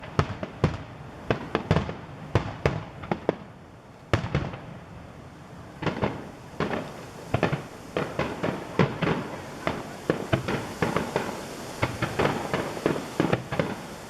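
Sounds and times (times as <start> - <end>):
fireworks booming: 0.0 - 4.9, 5.7 - 14.0.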